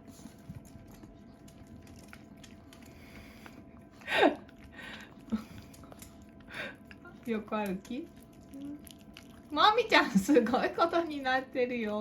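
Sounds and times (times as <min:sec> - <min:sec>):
dogs licking and smacking: 0:00.0 - 0:12.0.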